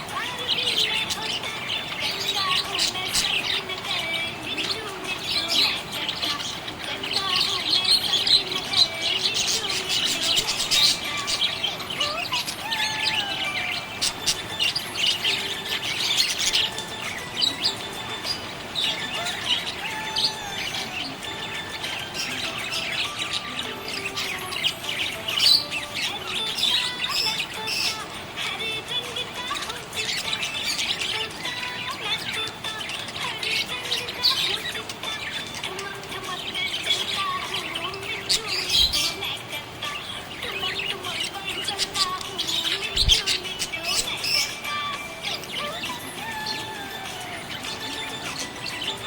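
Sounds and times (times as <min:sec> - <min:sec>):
budgerigars chirping and warbling: 0:00.0 - 0:49.0.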